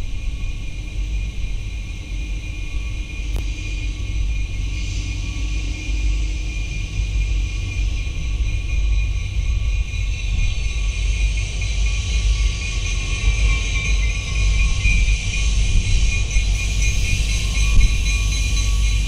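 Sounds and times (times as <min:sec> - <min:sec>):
distant diesel locomotive rumble: 0:00.0 - 0:19.0.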